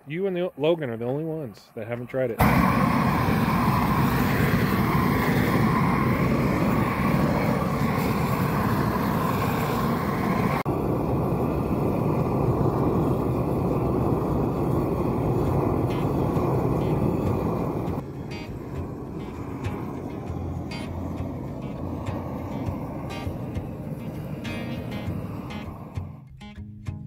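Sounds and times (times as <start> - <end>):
propane torch roaring hiss: 2.2 - 26.4.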